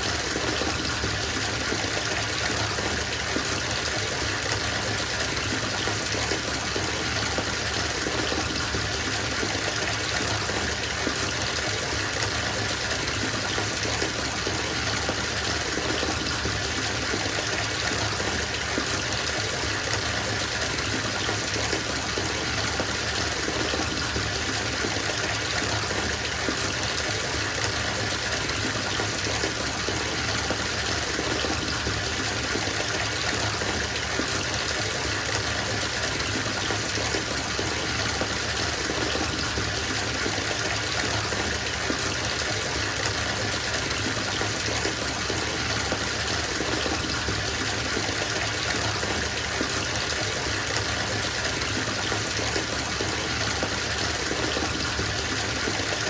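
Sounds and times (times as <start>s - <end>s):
tap water gushing into bathtub: 0.0s - 56.0s.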